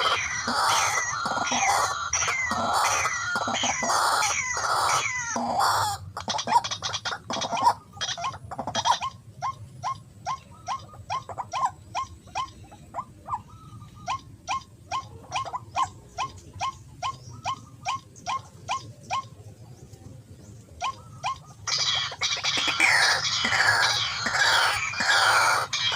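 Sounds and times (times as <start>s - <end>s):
bird calling sharp notes: 0.0s - 19.4s, 20.8s - 25.9s.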